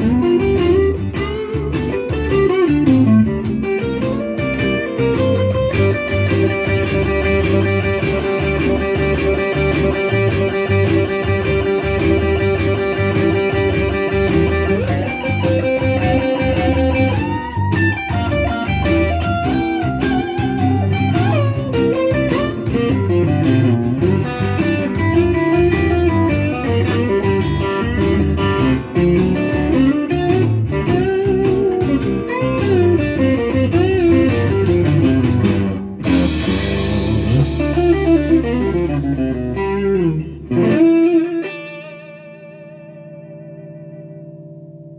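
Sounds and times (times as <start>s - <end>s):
drum and bass backing: 0.0s - 41.8s
blues shuffle on electric guitar: 0.0s - 44.9s.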